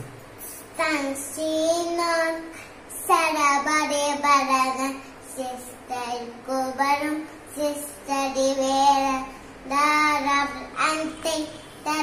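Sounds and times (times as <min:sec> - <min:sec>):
boy singing a prayer chant: 0:00.5 - 0:12.0.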